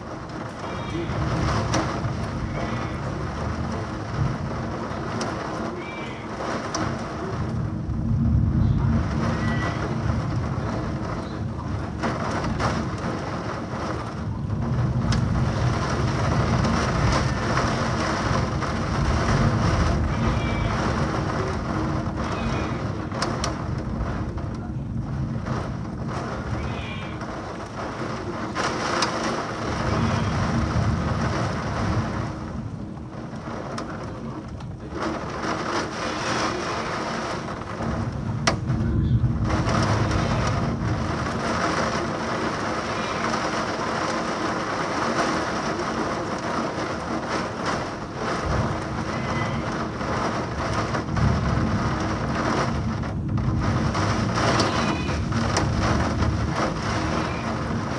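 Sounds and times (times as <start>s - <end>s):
heavy rain pouring: 0.0s - 57.9s
sharp thunder crack: 0.0s - 57.9s
thunder rumbling: 0.0s - 57.9s.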